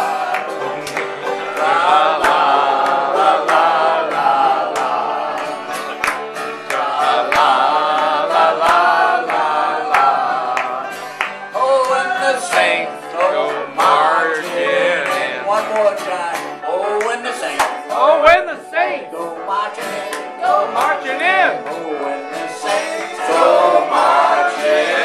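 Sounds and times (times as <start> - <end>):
banjo playing: 0.0 - 25.0
voices singing along: 0.0 - 25.0.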